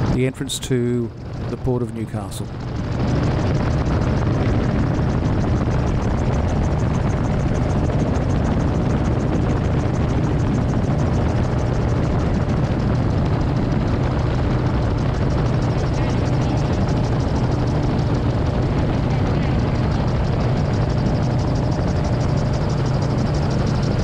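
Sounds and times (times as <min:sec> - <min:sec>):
engine and propeller drone: 0:00.0 - 0:24.0.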